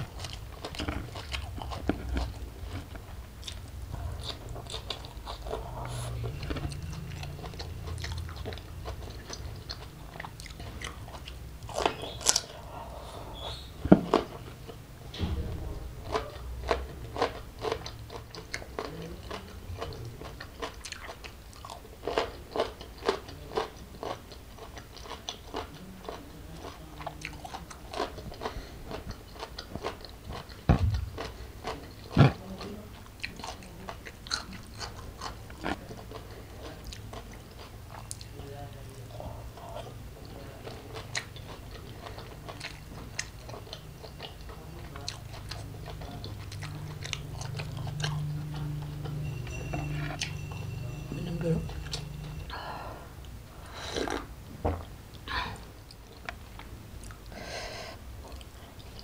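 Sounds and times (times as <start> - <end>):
person chewing leafy greens: 0.0 - 14.8, 16.0 - 38.5, 39.1 - 52.6, 53.8 - 57.4, 58.2 - 59.0.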